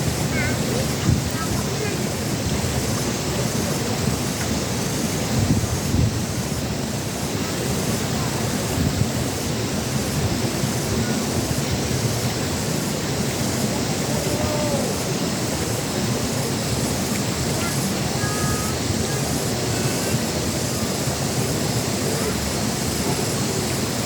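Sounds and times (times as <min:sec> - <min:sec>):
wind blowing across microphone: 0:00.0 - 0:24.0.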